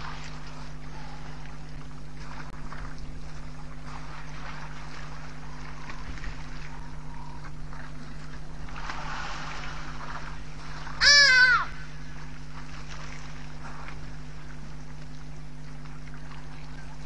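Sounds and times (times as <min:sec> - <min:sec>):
low hum: 0:00.0 - 0:17.0
water splashing and sloshing: 0:00.0 - 0:17.0.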